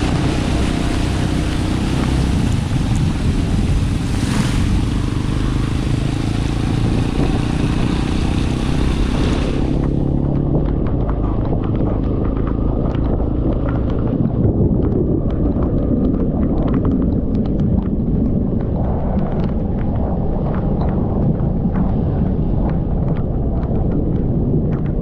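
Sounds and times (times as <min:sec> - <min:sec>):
raindrops ticking on microphone: 0:00.0 - 0:25.0
wind and engine rumble: 0:00.0 - 0:25.0.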